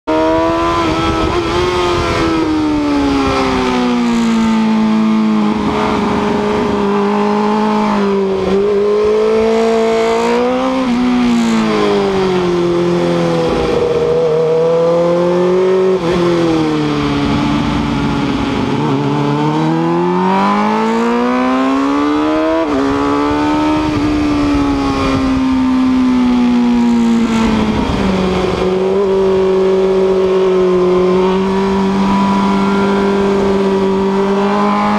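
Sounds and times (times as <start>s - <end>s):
motorcycle engine at speed: 0.1s - 34.9s.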